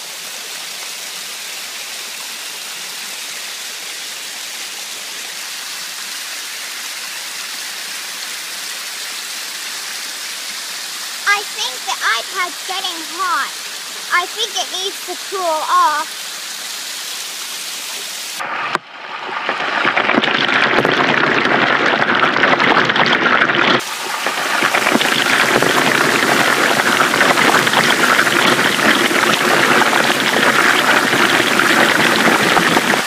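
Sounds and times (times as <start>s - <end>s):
waterfall splashing onto rocks: 0.0s - 33.0s.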